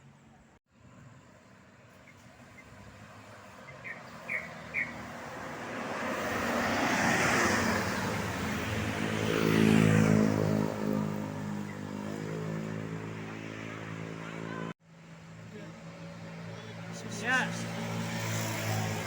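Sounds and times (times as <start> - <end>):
vehicle rushing past: 2.7 - 19.0.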